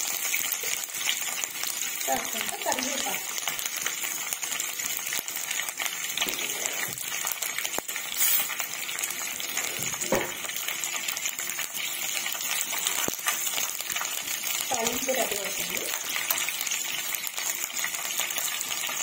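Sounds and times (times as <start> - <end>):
spices sizzling in hot oil: 0.0 - 19.0.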